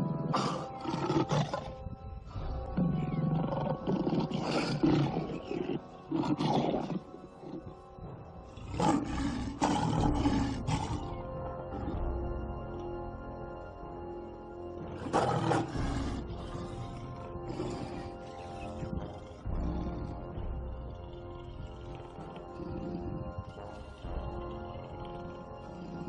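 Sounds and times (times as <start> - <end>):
wild animal roaring and growling: 0.0 - 12.2, 14.9 - 26.0
background music with sustained tones: 0.0 - 26.0.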